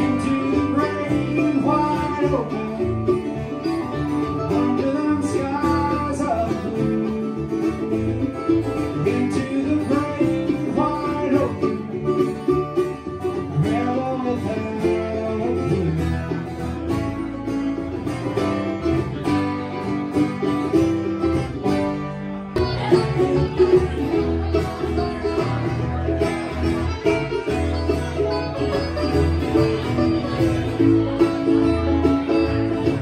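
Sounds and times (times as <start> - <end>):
country band instrumental: 0.0 - 33.0
plucked strings: 0.0 - 33.0.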